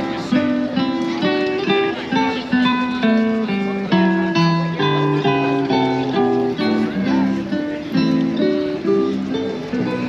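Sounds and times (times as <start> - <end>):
plucked acoustic guitar: 0.0 - 10.0.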